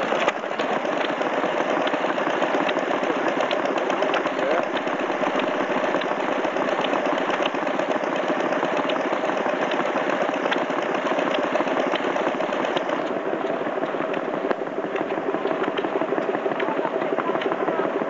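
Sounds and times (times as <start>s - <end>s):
stationary engine knocking: 0.0s - 18.0s.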